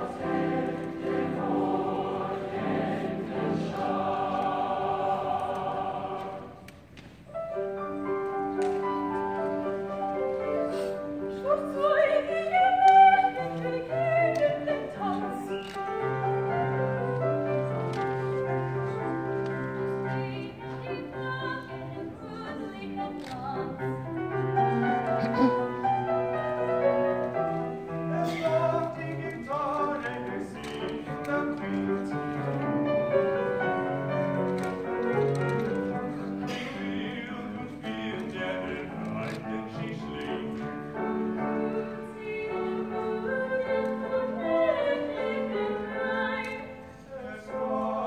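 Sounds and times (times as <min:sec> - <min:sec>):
mixed choir singing: 0:00.0 - 0:06.8, 0:11.3 - 0:48.0.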